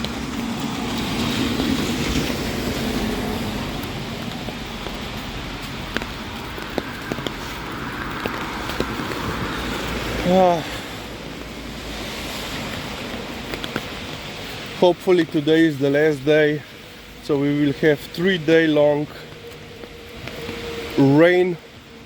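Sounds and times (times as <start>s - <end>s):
rain: 0.0s - 22.0s
tyres hissing on wet road: 0.0s - 22.0s.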